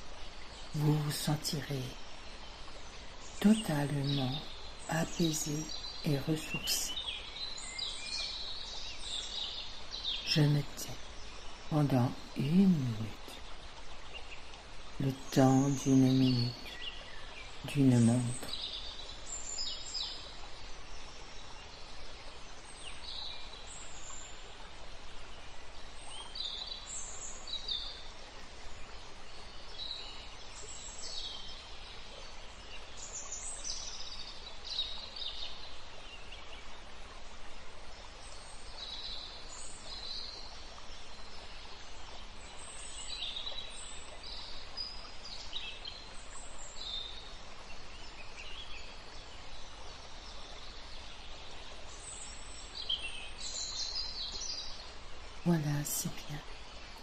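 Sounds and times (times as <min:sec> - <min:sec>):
outdoor ambience hiss: 0:00.0 - 0:57.0
small birds chirping and trilling: 0:00.3 - 0:57.0.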